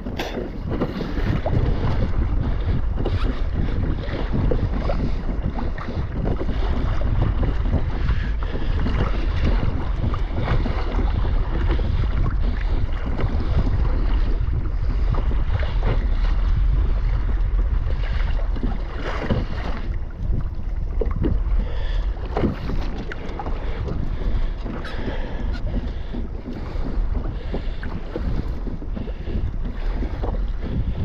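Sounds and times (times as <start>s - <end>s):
water splashing against kayak hull: 0.0s - 31.0s
wind buffeting microphone: 0.0s - 31.0s.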